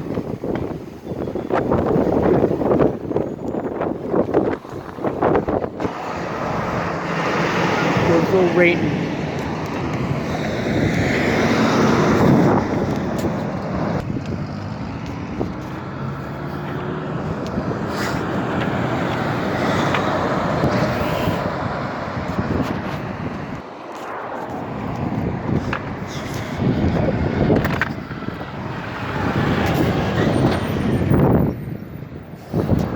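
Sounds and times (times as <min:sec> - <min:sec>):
vehicles driving past: 0:00.0 - 0:32.9.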